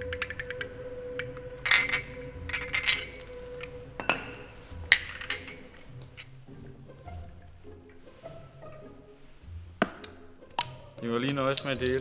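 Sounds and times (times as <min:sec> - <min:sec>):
glasses clinking: 0:00.0 - 0:08.8, 0:09.8 - 0:12.0
quiet background music: 0:00.0 - 0:12.0.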